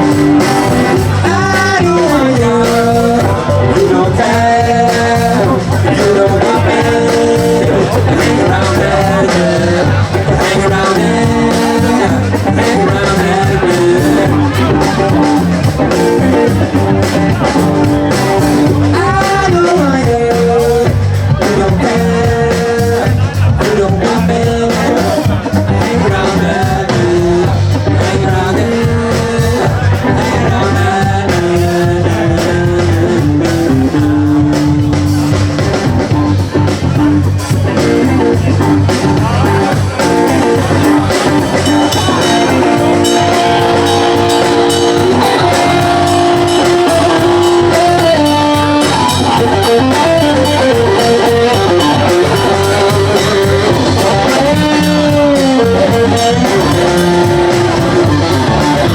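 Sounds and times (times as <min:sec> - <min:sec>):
blues-rock band playing: 0:00.0 - 0:58.9
electric guitar bending notes: 0:00.0 - 0:58.9
person singing: 0:00.0 - 0:58.9.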